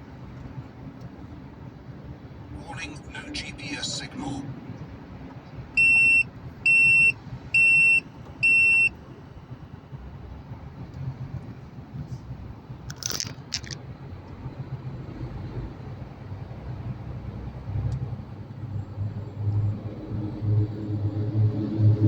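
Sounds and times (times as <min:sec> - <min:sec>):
truck engine rumble: 0:00.0 - 0:22.0.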